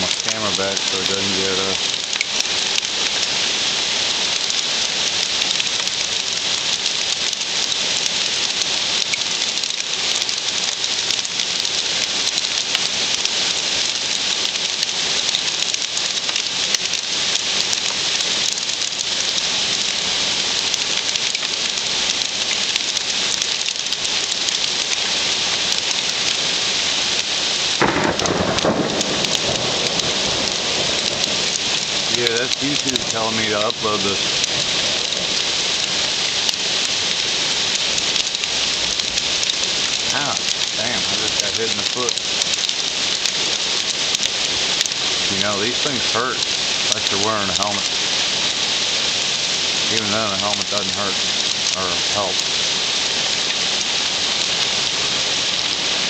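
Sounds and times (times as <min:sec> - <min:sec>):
hail and rain pelting down: 0:00.0 - 0:56.0.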